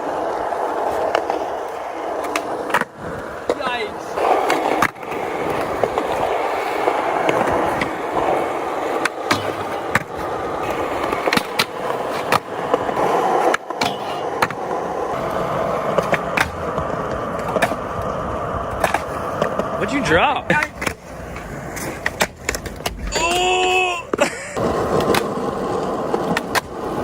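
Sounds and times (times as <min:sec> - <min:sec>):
skateboard wheels rolling on pavement: 0:00.0 - 0:27.0
skateboard popping and landing clacks: 0:00.2 - 0:19.8, 0:20.4 - 0:27.0.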